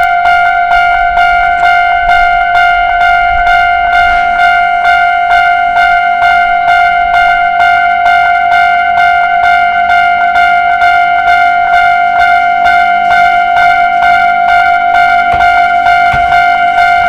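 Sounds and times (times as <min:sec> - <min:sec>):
level crossing bell ringing: 0:00.0 - 0:17.0.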